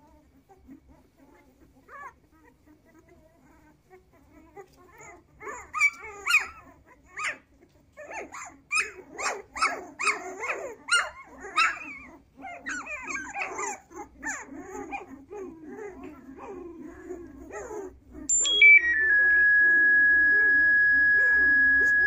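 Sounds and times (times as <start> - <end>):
puppies crying: 0.0 - 18.3.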